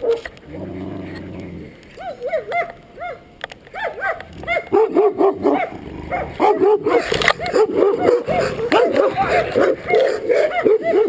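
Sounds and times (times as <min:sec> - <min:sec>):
dog barking: 0:02.0 - 0:11.0.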